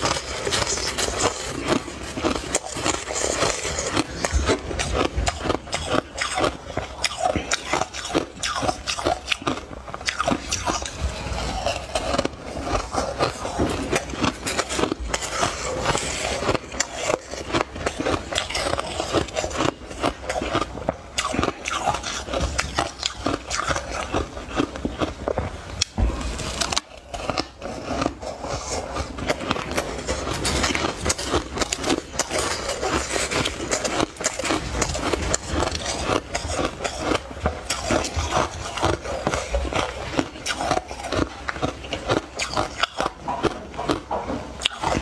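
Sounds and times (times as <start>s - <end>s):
crunching ice being chewed: 0.0s - 45.0s.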